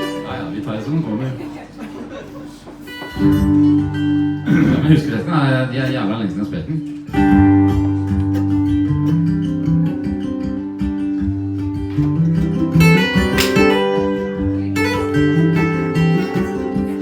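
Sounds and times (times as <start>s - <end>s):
acoustic guitar strumming: 0.0s - 0.8s, 2.8s - 17.0s.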